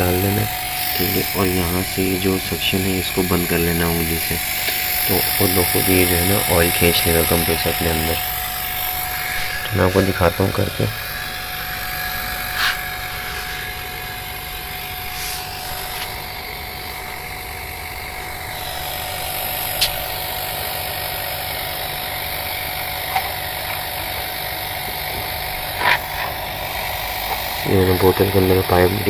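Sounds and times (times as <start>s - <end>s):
compressor humming: 0.0s - 29.0s.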